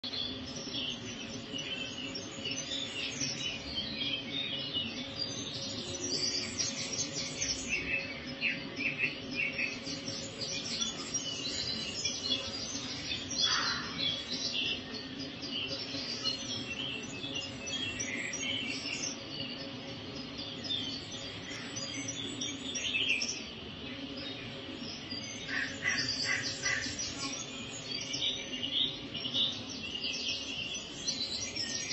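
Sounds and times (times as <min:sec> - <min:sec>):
small birds chirping and singing: 0:00.0 - 0:31.9.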